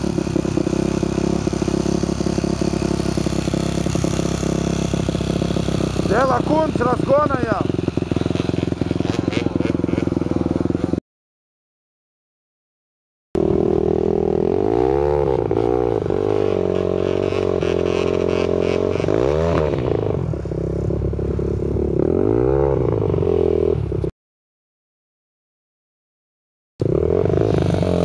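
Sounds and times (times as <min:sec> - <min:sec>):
atv engine revving: 0:00.0 - 0:11.0, 0:13.4 - 0:24.1, 0:26.8 - 0:28.0.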